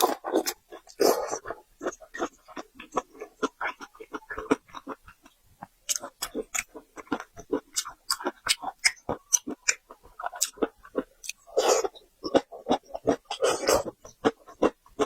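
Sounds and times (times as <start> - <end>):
wet crunchy chewing: 0.0 - 15.0.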